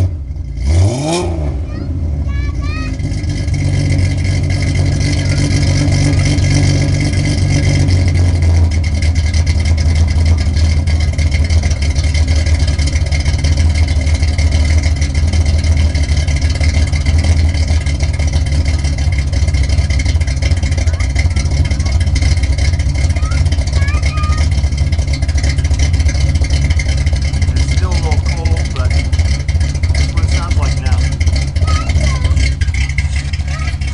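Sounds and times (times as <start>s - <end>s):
car engine idling lumpily: 0.0s - 33.9s.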